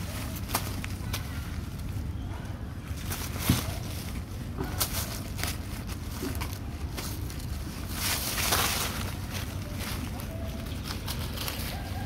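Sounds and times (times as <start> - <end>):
dry leaves crackling and rustling: 0.0 - 12.0.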